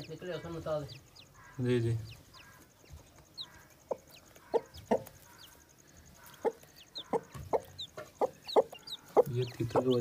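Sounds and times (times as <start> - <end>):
chicks peeping: 0.0 - 10.0
hen clucking: 0.0 - 10.0.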